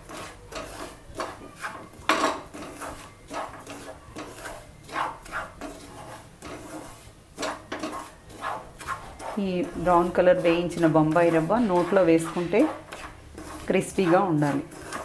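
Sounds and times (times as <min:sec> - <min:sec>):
wooden spatula scraping frying pan: 0:00.0 - 0:15.0.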